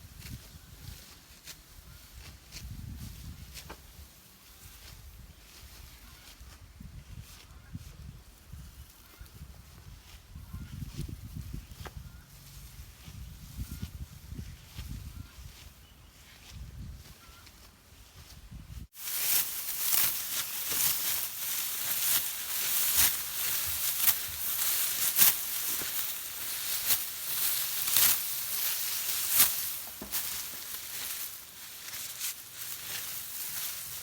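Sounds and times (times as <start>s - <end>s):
dry rice stalks rustling: 0.0s - 34.0s.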